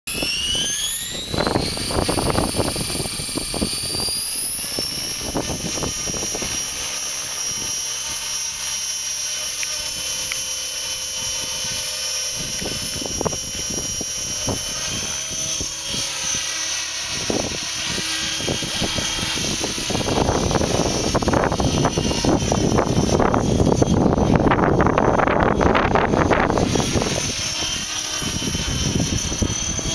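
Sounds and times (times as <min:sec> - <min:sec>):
wind buffeting microphone: 0:00.1 - 0:08.3, 0:09.8 - 0:29.9
model helicopter whine: 0:00.1 - 0:29.9.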